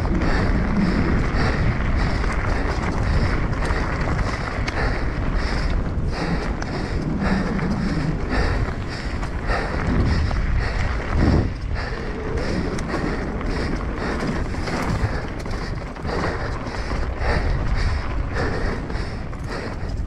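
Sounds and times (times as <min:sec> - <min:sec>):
tyres crunching on gravel: 0:00.0 - 0:18.4
bike rattling over bumps: 0:00.0 - 0:20.0
wind rushing over microphone: 0:00.0 - 0:20.0.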